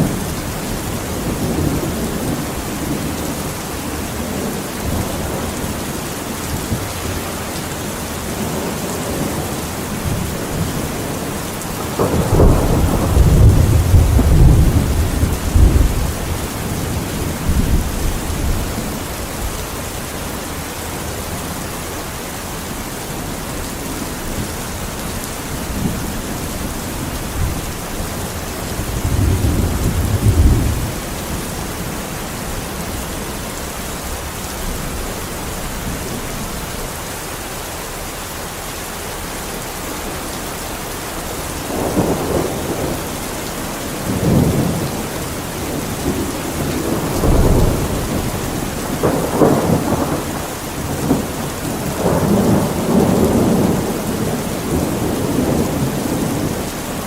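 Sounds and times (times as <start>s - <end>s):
thunder rumbling: 0.0s - 37.0s, 41.3s - 57.0s
steady rain falling: 0.0s - 57.0s.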